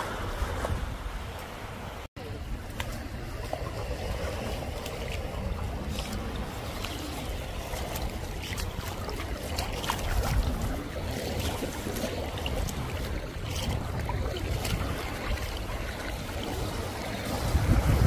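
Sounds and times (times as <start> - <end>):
water lapping with small splashes: 0.0 - 18.0
wind rumble on microphone: 0.0 - 18.0.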